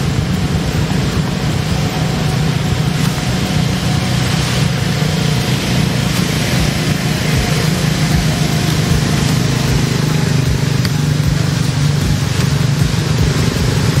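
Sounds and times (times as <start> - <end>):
mechanical drone with hiss: 0.0 - 14.0.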